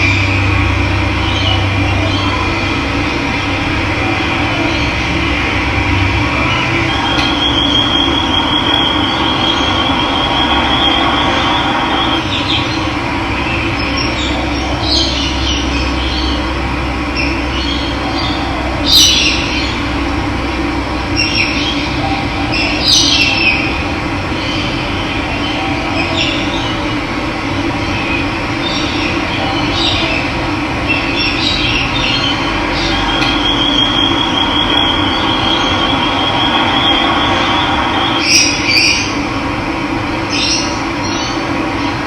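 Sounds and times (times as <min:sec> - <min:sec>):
birds calling: 0:00.0 - 0:20.1, 0:21.0 - 0:27.0, 0:27.6 - 0:39.3.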